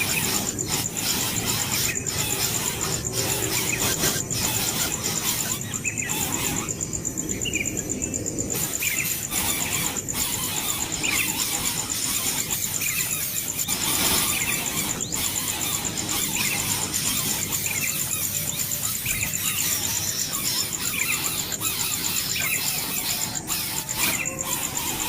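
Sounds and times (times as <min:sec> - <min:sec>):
bird chicks chirping: 0:00.0 - 0:25.0
high pulsing buzz: 0:00.0 - 0:25.0.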